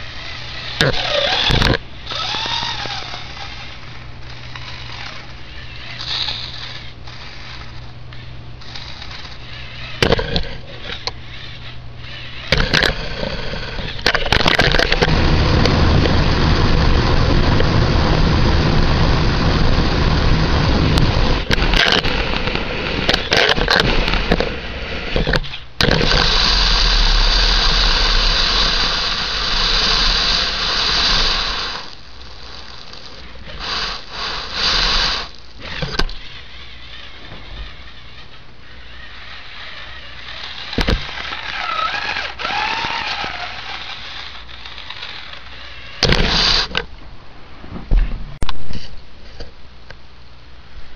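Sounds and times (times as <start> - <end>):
electric motors and gears whirring: 0.0 - 47.1.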